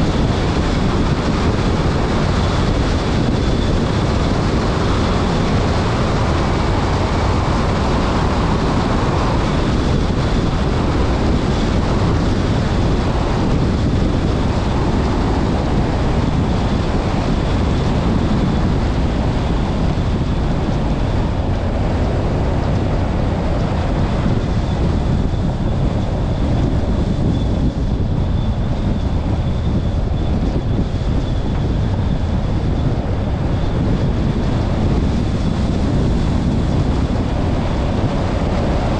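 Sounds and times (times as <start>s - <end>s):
wind noise on microphone: 0.0s - 38.9s.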